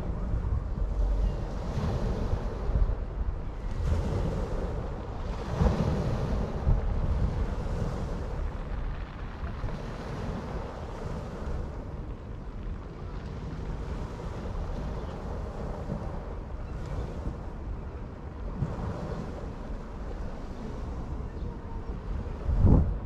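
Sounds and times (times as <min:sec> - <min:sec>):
surf washing onto shore: 0:00.0 - 0:23.0
wind rumbling on microphone: 0:00.0 - 0:23.0.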